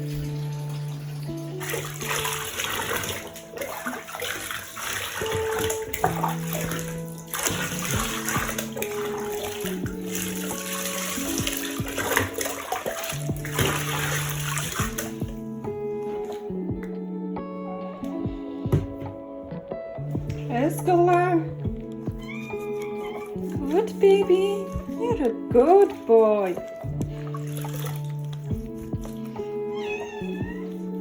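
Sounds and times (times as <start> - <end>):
slow background music: 0.0 - 31.0
water running into bathtub: 0.0 - 31.0.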